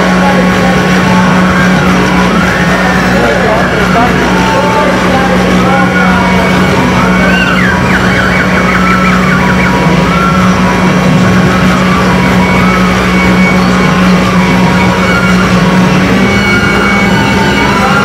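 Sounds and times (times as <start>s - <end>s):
low drone: 0.0s - 18.0s
warbling siren-like tones: 0.0s - 18.0s.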